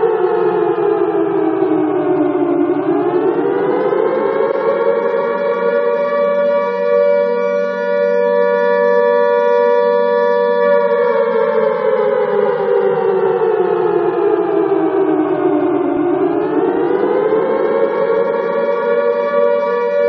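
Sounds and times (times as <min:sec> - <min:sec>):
alarm siren wailing: 0:00.0 - 0:20.0.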